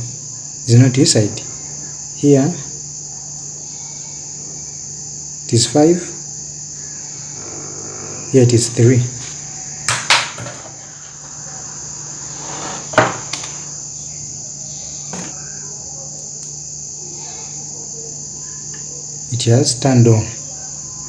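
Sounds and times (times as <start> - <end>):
steady high-pitched hiss: 0.0 - 21.0.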